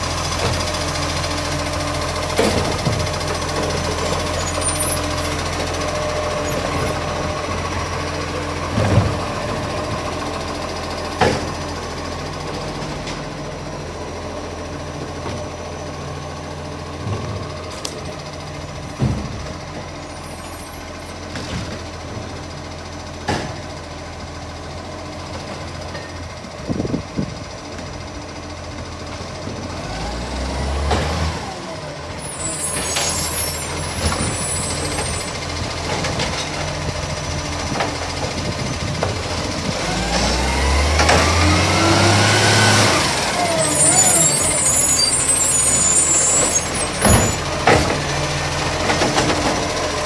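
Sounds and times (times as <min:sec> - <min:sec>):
garbage truck engine running: 0:00.0 - 0:50.0.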